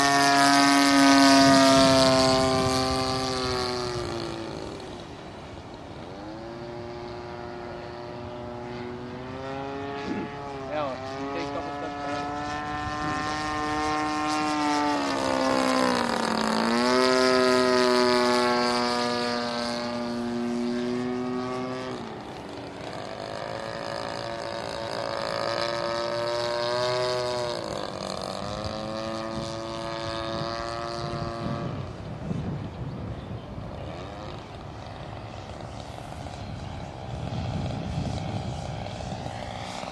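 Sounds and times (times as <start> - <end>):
model airplane engine and propeller: 0.0 - 39.9.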